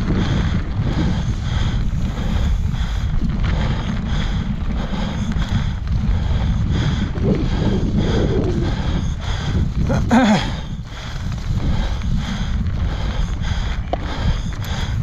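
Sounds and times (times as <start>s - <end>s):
bike tyres rumbling: 0.0s - 15.0s
wind rushing over microphone: 0.0s - 15.0s.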